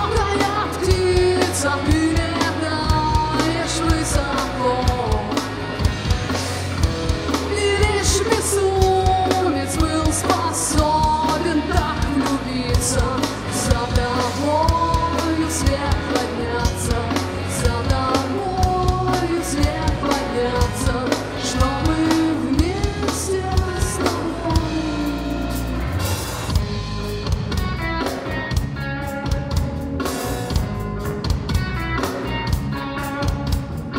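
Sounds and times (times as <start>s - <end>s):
rock band playing: 0.0s - 33.9s.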